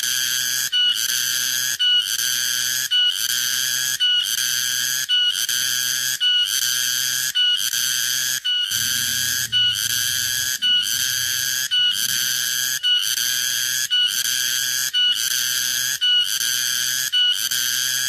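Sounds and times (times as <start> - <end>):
cicada buzzy whistle-like call: 0.0 - 18.0.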